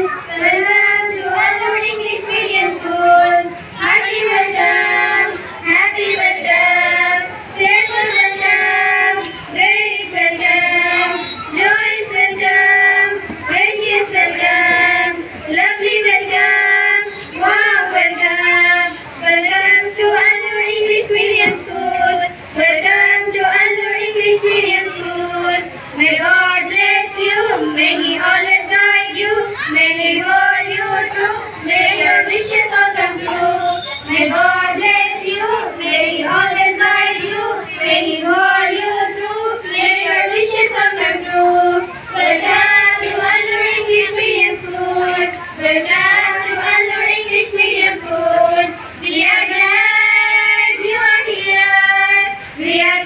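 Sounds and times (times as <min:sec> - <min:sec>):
women and children singing: 0:00.0 - 0:53.0.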